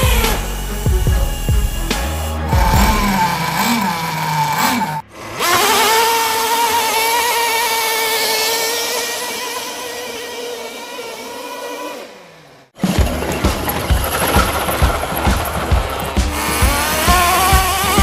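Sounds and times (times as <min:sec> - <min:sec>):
toy tractor motor whining: 0:00.0 - 0:18.0.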